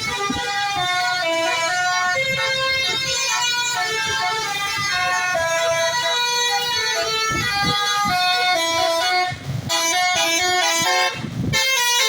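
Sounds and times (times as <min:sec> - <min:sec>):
multi-tone bus horn melody: 0:00.0 - 0:12.0.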